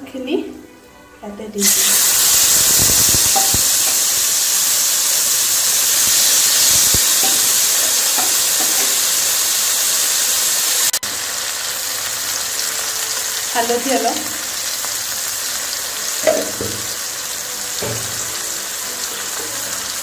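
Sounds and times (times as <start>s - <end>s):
vegetables sizzling in hot oil: 1.6s - 20.0s.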